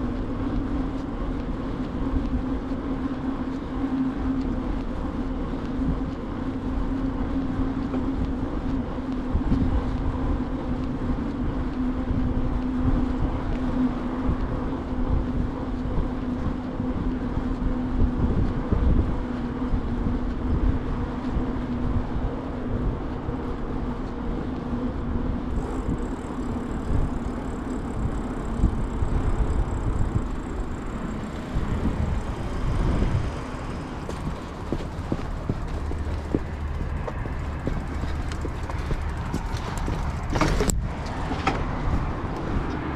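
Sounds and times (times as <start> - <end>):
steady hum: 0.0 - 41.1
bicycle tyres rumbling: 0.0 - 42.9
bike rattling: 0.0 - 42.9.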